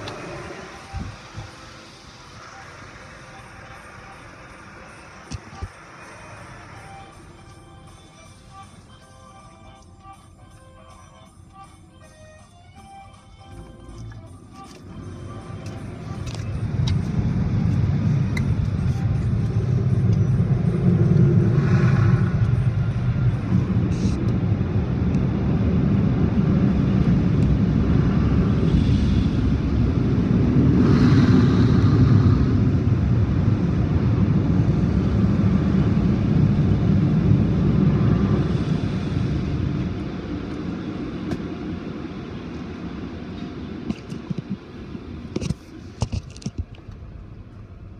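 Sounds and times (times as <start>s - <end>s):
car wash blowers roaring: 0.0s - 8.9s, 13.6s - 46.0s.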